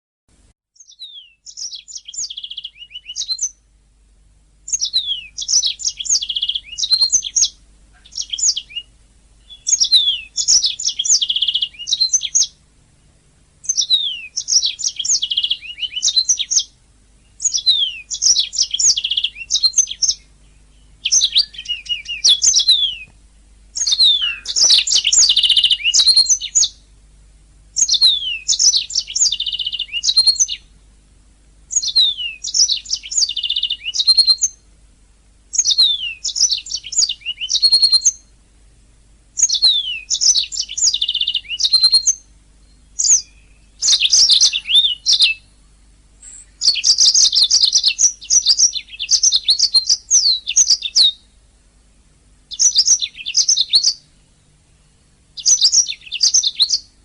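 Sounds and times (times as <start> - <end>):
canary singing chirps and trills: 0.8 - 3.7, 4.6 - 12.6, 13.6 - 27.0, 27.7 - 31.0, 31.7 - 34.7, 35.5 - 38.4, 39.3 - 51.4, 52.4 - 57.0.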